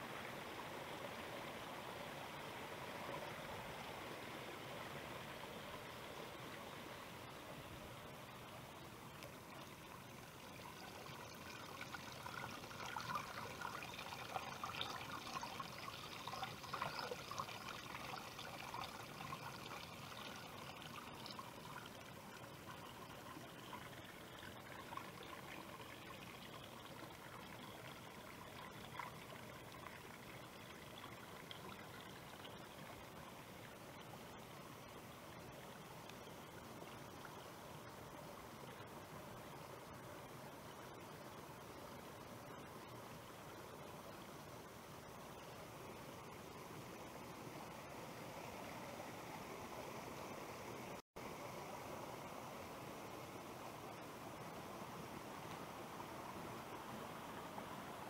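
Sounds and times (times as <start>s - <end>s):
stream trickling over stones: 0.0s - 58.0s.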